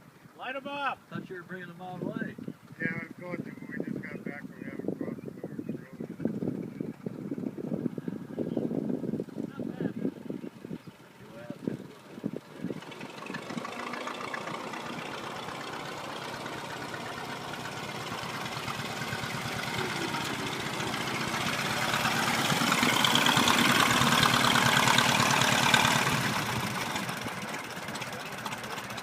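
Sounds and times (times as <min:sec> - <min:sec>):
old truck engine running: 0:01.8 - 0:29.0.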